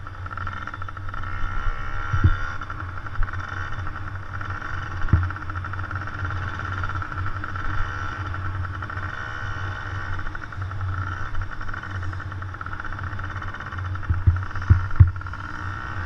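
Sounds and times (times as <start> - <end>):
dirt bike engines buzzing: 0.0 - 16.0.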